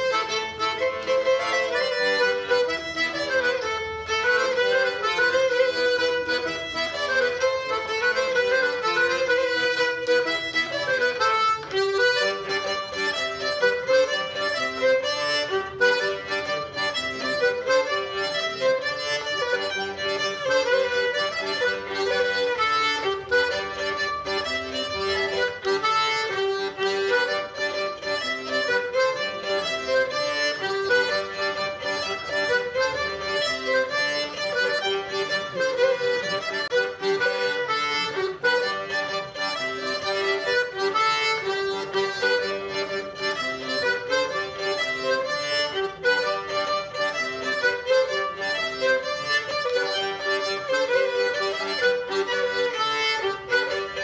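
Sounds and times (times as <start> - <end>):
accordion: 0.0 - 54.0
fiddle: 0.0 - 54.0.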